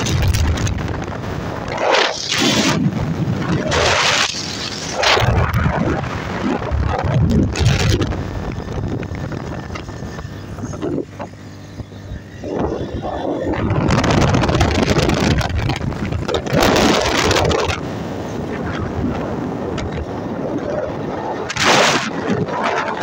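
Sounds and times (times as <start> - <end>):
motorcycle running: 0.0 - 23.0
tyres on wet road: 0.0 - 23.0
wind rushing over microphone: 0.0 - 23.0.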